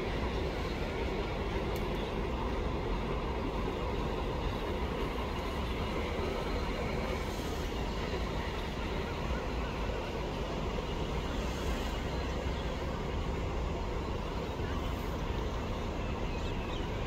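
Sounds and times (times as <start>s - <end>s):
locomotive engine rumble: 0.0s - 17.0s.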